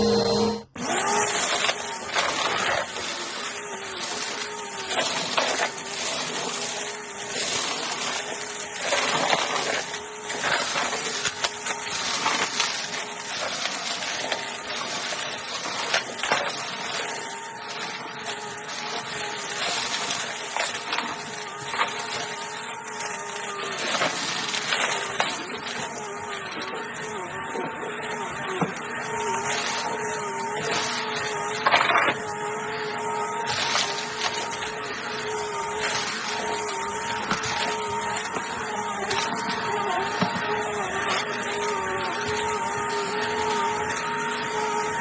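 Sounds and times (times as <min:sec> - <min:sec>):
vacuum cleaner running: 0:00.0 - 0:45.0
cereal crunching: 0:01.2 - 0:27.4, 0:28.0 - 0:44.9.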